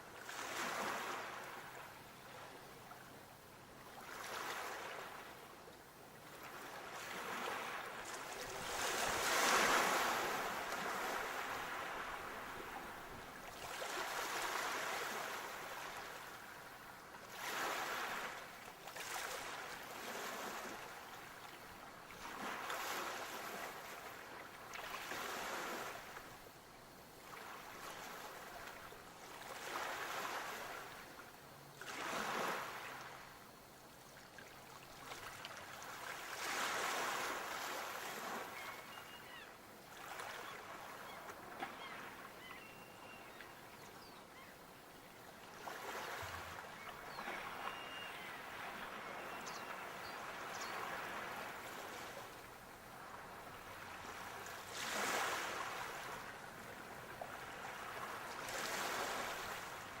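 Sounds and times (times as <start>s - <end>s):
sea waves breaking on shore: 0.0s - 2.6s, 3.8s - 5.5s, 6.2s - 26.4s, 27.2s - 31.2s, 31.8s - 33.3s, 34.2s - 43.7s, 44.3s - 60.0s.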